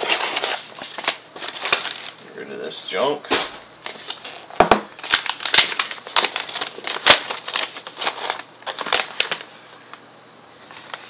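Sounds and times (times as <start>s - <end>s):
paper rustling and crinkling: 0.0s - 2.2s, 3.0s - 10.0s, 10.6s - 11.0s.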